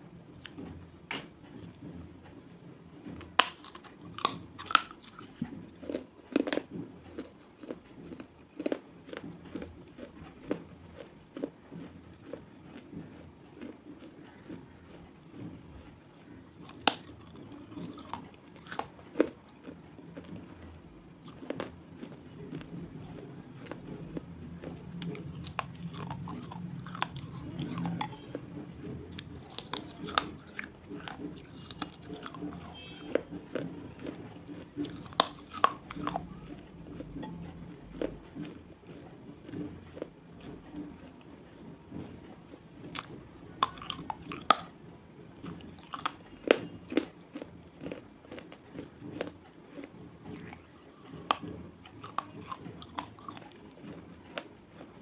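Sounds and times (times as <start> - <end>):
chewing: 0.3 - 55.0.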